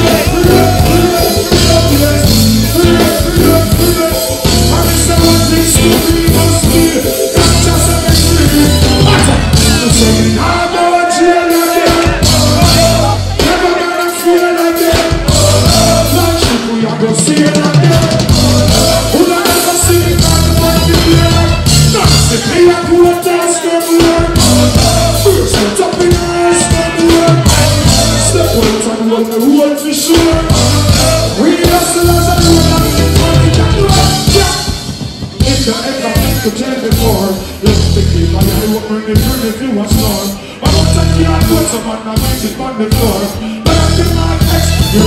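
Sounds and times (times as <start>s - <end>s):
pulsing bass line: 0.0s - 10.7s, 12.0s - 13.6s, 15.1s - 16.6s, 17.8s - 23.1s, 24.2s - 28.8s, 30.3s - 34.7s, 35.4s - 45.0s
live reggae band playing: 0.0s - 45.0s.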